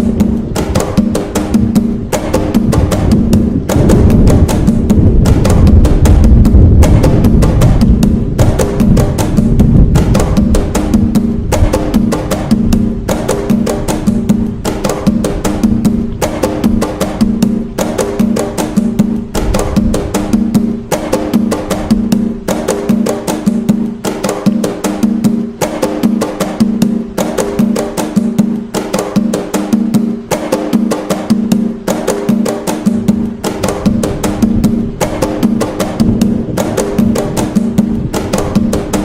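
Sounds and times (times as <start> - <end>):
hand drums playing fast rhythm: 0.0 - 39.0.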